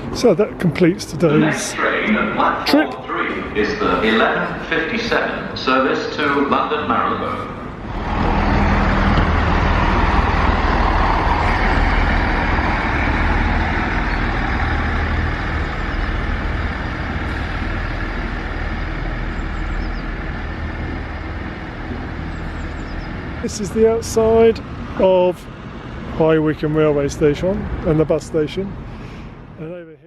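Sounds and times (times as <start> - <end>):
wheel and rail noise: 0.0 - 29.6
diesel train engine hum: 0.0 - 30.0.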